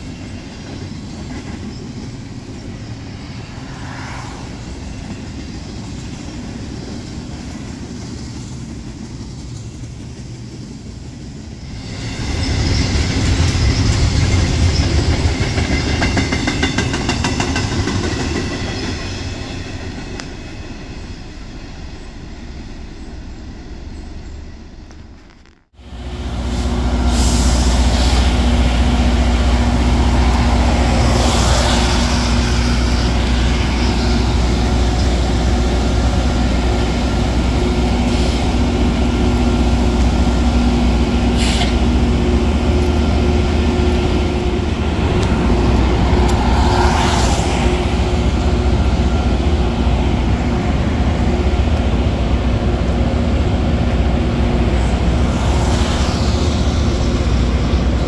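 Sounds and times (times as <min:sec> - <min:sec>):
train rumbling past: 0:00.0 - 0:58.0.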